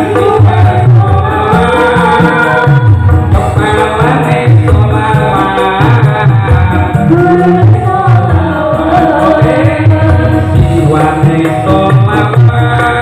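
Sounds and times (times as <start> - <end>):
electronic keyboard: 0.0 - 13.0
hand drums beating: 0.0 - 13.0
voices singing into microphones: 0.0 - 13.0.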